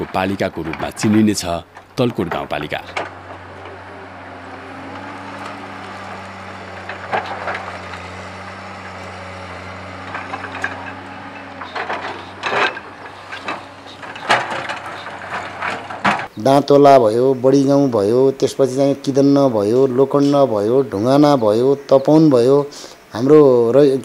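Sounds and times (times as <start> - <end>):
diesel engine hum: 0.0 - 23.4.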